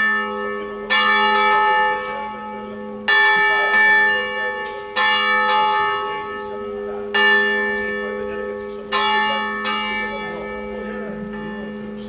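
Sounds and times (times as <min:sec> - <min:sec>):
church bell ringing: 0:00.0 - 0:12.0.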